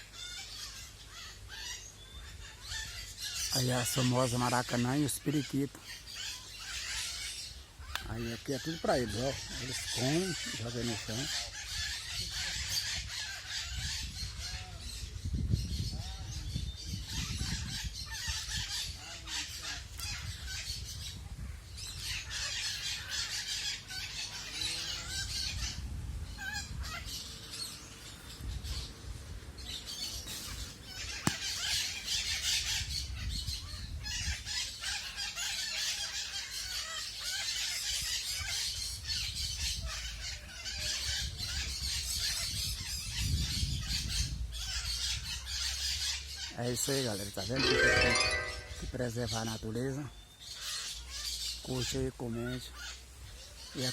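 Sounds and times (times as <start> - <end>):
macaws and parakeets squawking: 0.0 - 15.1, 15.7 - 21.2, 21.8 - 27.8, 30.0 - 49.6, 50.5 - 53.9.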